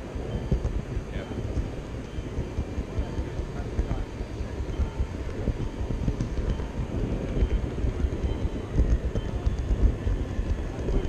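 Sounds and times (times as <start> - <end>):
hall background noise: 0.0 - 11.0
model train wheels rumbling: 0.0 - 11.0.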